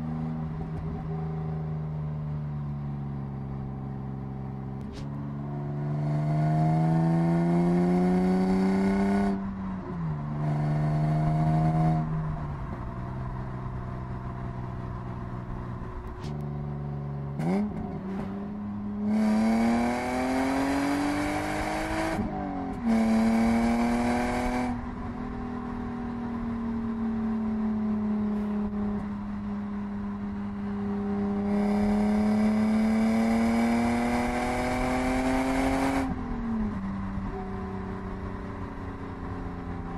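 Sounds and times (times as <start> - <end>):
car engine revving: 3.0 - 29.4, 30.2 - 39.9.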